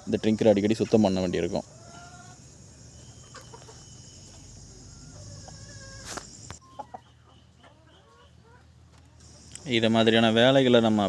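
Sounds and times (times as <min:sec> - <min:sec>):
chickens clucking faintly: 0:00.0 - 0:11.0.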